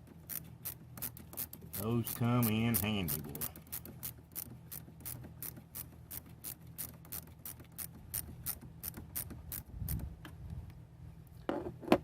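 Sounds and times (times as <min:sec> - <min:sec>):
ratchet wrench clicking: 0:00.3 - 0:10.0.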